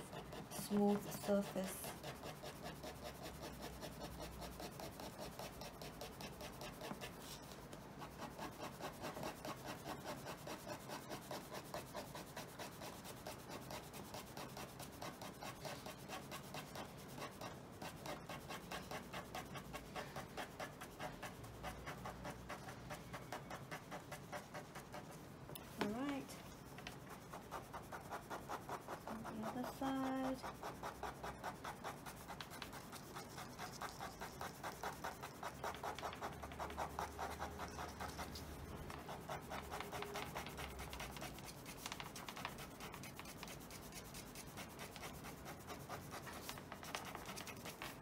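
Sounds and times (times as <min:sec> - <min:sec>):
pen scratching on paper: 0:00.0 - 0:48.0.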